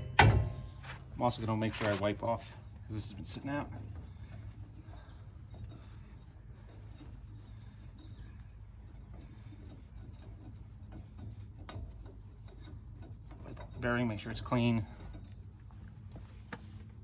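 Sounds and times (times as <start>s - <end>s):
knocks and rustles of handled parts: 0.0s - 17.0s
crickets chirping: 0.3s - 17.0s.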